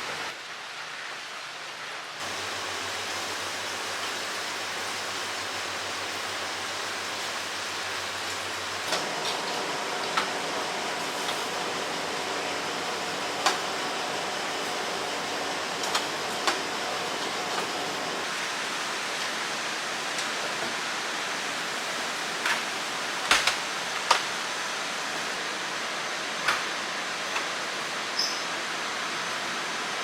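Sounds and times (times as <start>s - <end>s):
hissing room noise: 0.0s - 30.0s.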